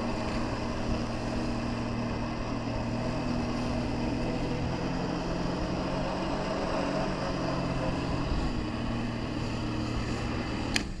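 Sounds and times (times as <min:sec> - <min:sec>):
watercraft engine running: 0:00.0 - 0:11.0.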